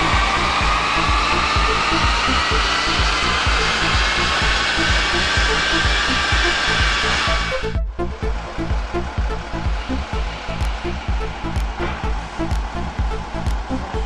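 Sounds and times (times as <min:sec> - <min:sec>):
engine roaring on a dynamometer: 0:00.0 - 0:14.0
music with a steady beat: 0:00.0 - 0:14.0.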